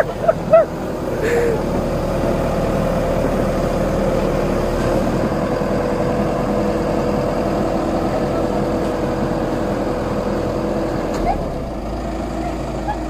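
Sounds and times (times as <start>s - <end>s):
excavator diesel engine rumble: 0.0s - 13.0s.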